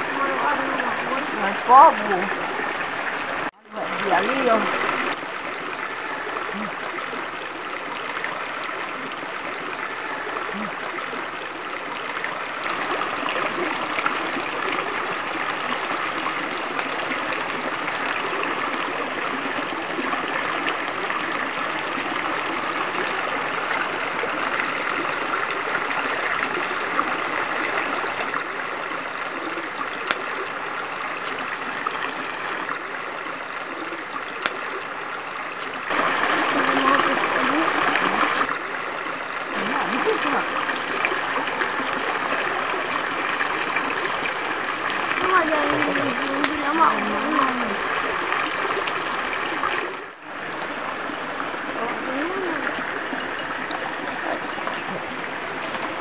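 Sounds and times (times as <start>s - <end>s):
stream rushing and trickling: 0.0s - 56.0s.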